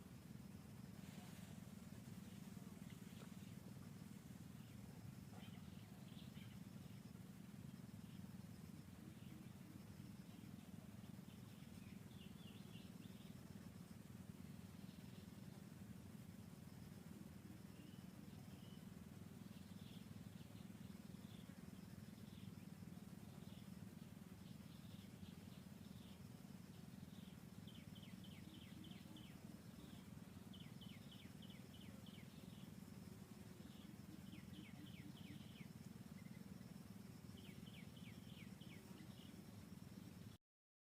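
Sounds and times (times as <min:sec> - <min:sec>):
low steady hum: 0:00.0 - 0:40.4
small birds chirping: 0:00.5 - 0:40.4.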